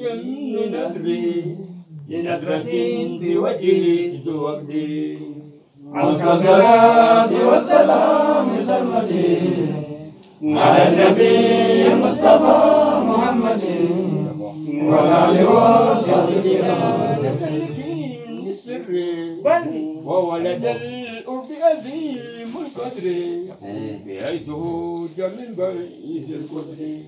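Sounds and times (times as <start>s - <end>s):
men chanting: 0.0s - 27.0s.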